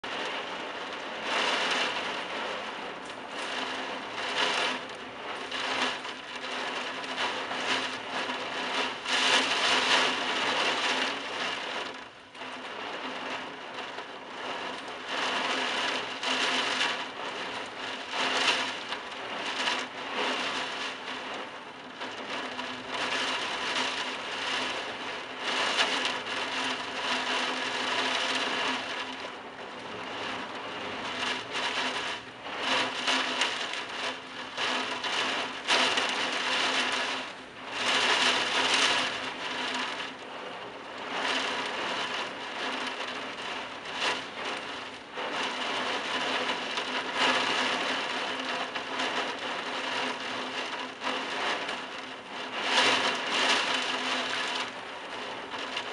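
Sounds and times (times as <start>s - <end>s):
heavy wind-driven rain: 0.0s - 55.9s.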